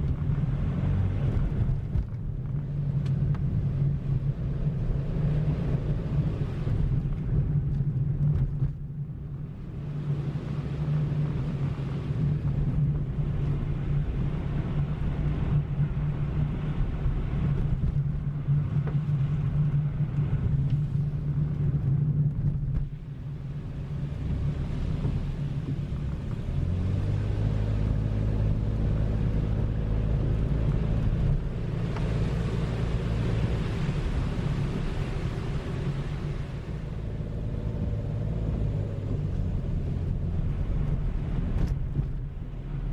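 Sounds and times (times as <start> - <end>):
car engine: 0.0 - 42.9.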